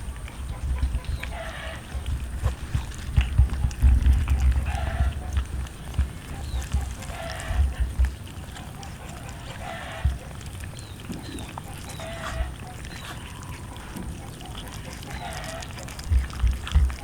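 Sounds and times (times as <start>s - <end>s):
cats chewing wetly: 0.0s - 17.0s.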